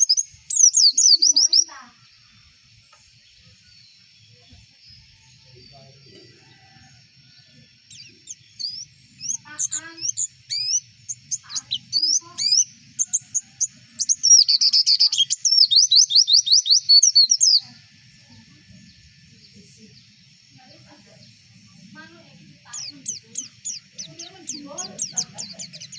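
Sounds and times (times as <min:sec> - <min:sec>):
bird chirping and trilling: 0:00.0 - 0:25.9.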